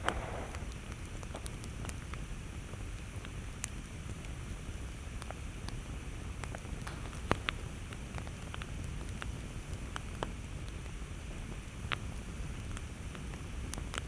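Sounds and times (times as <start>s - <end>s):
campfire rumbling: 0.0s - 14.0s
wood crackling and popping: 0.0s - 14.0s.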